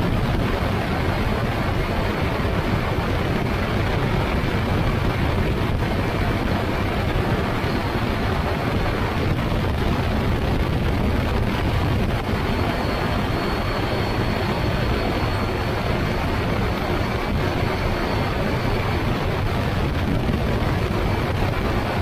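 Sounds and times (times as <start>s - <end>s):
faint high whine: 0.0s - 22.0s
propeller engine drone: 0.0s - 22.0s
wind rush on microphone: 0.0s - 22.0s.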